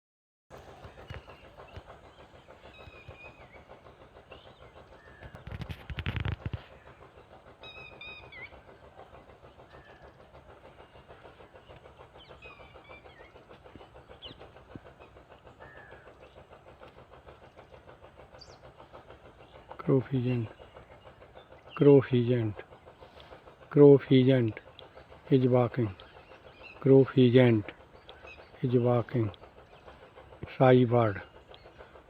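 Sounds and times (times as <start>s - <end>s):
fast rhythmic clatter: 0.5s - 32.0s.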